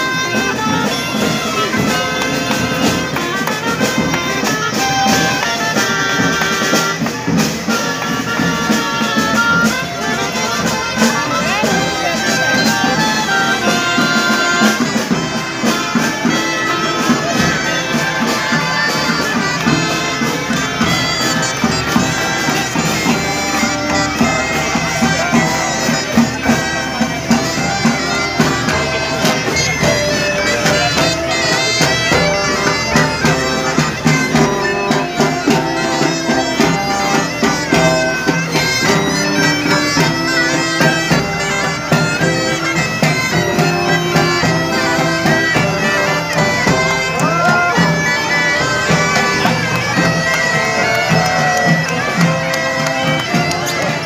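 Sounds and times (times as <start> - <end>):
reed wind instruments folk melody: 0.0 - 54.0.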